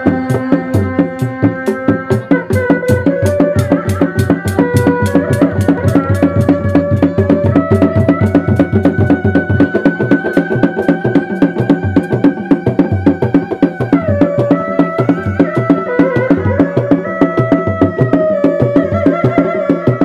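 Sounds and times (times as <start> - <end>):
frame drums beating fast rhythm: 0.0 - 20.0
held melody line: 0.0 - 20.0.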